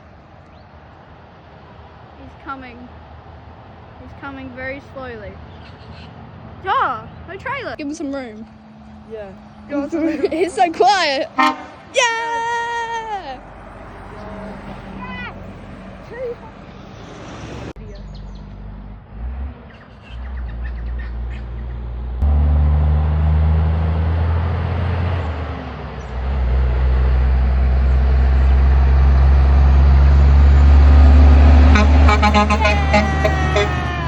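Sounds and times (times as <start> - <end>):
heavy truck passing: 0.0 - 34.0.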